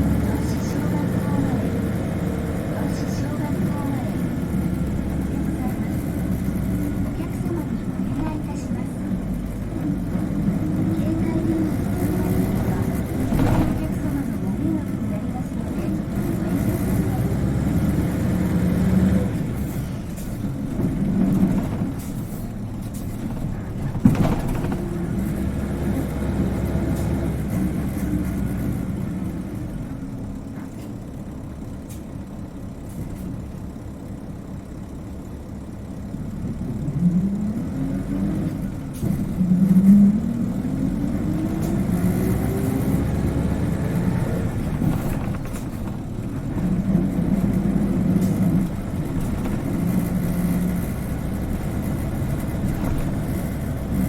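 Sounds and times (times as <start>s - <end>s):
bus engine accelerating: 0.0s - 54.0s.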